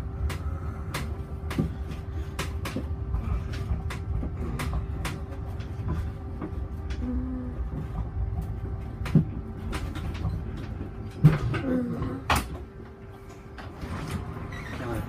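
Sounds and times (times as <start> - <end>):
vehicle cabin rumble and hum: 0.0 - 15.0.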